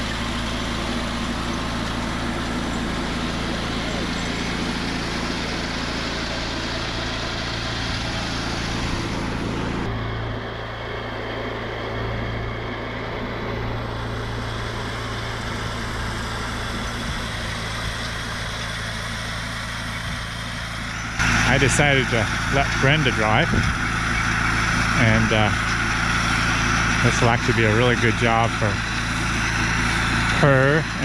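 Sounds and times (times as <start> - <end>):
small gasoline engine running: 0.0 - 31.0.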